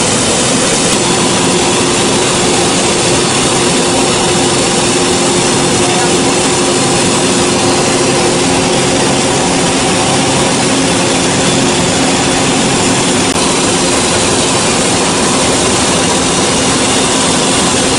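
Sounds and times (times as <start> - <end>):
band sawmill droning: 0.0 - 17.9.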